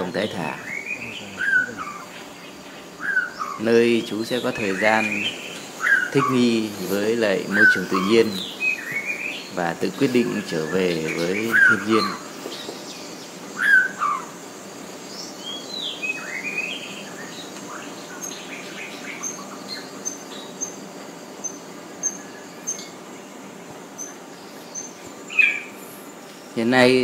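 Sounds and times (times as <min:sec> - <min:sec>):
birds calling: 0:00.0 - 0:27.0.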